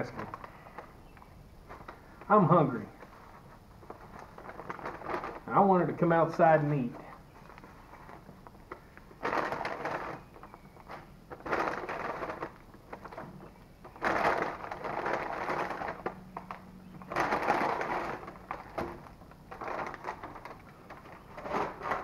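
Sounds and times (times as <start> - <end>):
paper bag rustling and crinkling: 0.0 - 22.0.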